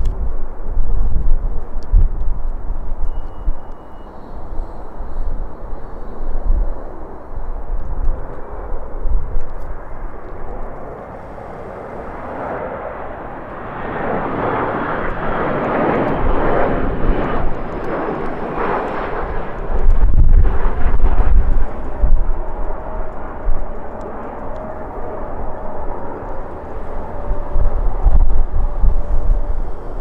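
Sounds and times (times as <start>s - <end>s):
jet airliner engine roar: 0.0s - 30.0s
wind buffeting microphone: 0.0s - 30.0s.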